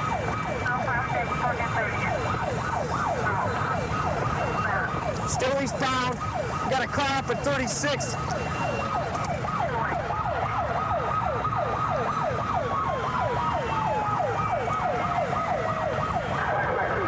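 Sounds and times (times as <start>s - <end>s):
police siren yelping: 0.0s - 17.0s
road noise: 0.0s - 17.0s.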